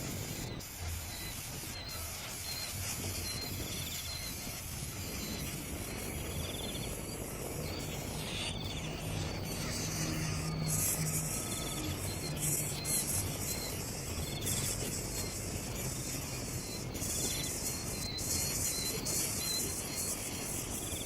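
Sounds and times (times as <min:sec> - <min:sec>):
insects chirping: 0:00.2 - 0:21.0.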